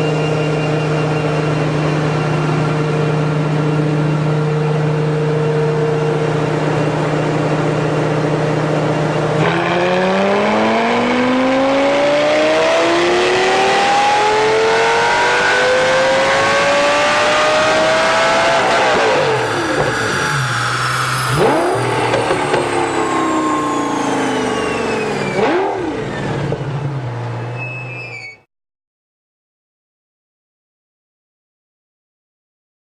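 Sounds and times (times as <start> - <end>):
car engine revving on dynamometer: 0.0 - 27.5.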